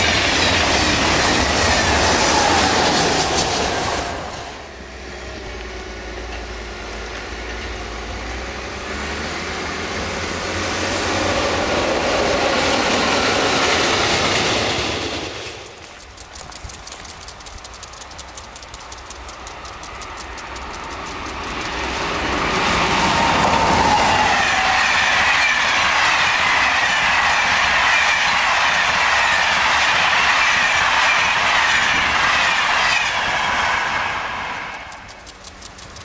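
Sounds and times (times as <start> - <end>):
clickety-clack of train wheels: 0.0 - 36.0
passenger train passing: 0.0 - 36.0.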